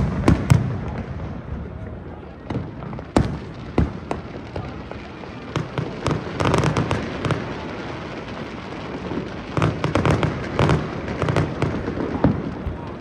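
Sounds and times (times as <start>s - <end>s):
crackling firework pops: 0.0s - 13.0s
firework bangs: 0.0s - 13.0s.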